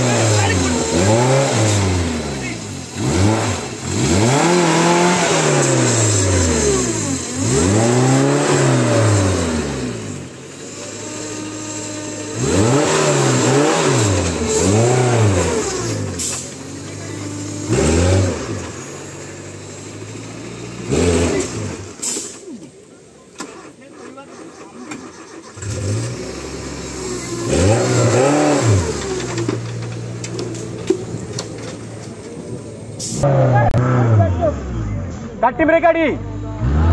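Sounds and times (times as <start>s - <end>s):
engine revving and idling: 0.0s - 36.9s.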